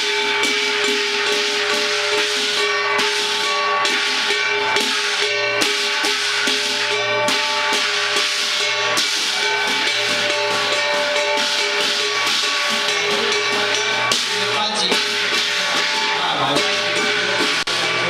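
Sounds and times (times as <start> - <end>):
gong and cymbal percussion music: 0.0 - 18.0.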